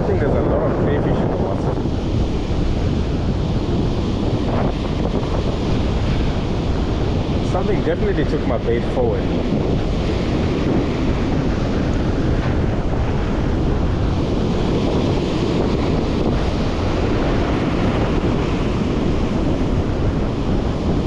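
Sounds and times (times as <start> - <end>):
surf breaking over rocks: 0.0 - 21.0
wind buffeting microphone: 0.0 - 21.0.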